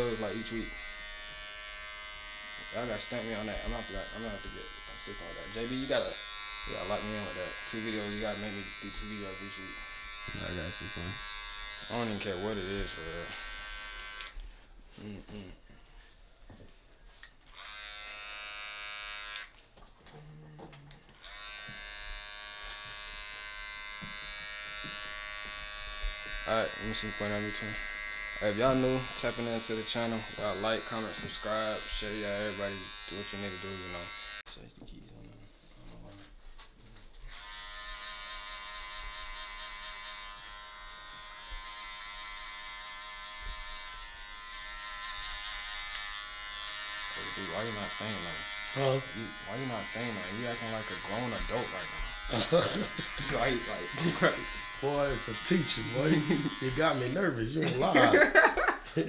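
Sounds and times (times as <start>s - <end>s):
electric hair clippers buzzing: 0.0s - 14.4s, 17.5s - 19.6s, 21.2s - 34.4s, 37.3s - 59.0s.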